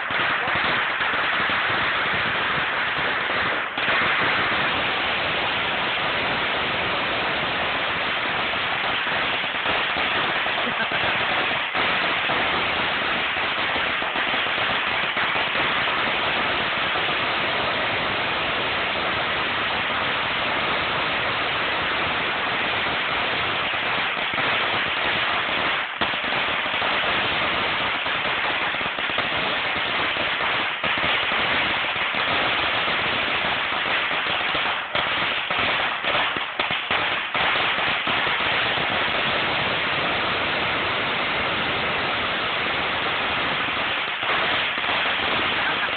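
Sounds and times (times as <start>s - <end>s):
firecrackers crackling: 0.0s - 45.9s.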